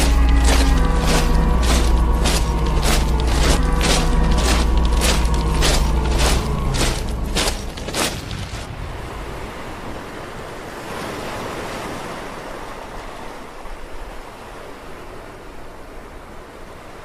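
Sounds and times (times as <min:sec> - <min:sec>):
ocean surf on shore: 0:00.0 - 0:17.0.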